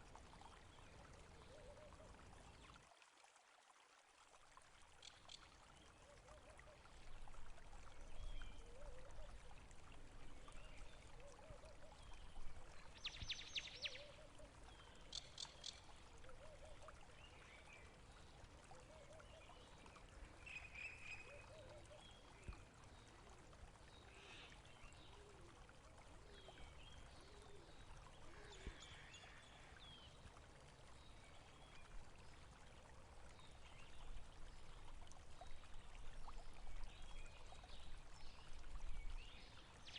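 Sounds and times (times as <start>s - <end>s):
small stream flowing: 0.0s - 39.9s.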